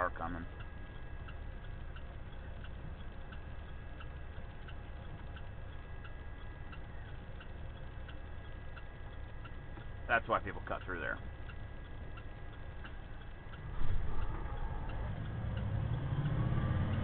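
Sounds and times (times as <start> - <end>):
diesel truck engine rumble: 0.0 - 17.0
turn signal ticking: 0.0 - 17.0.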